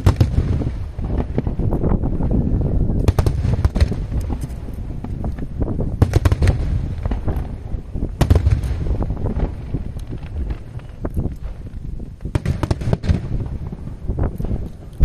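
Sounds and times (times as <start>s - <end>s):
deep rumble of fireworks bursts: 0.0s - 15.0s
fireworks crackling: 0.0s - 15.0s.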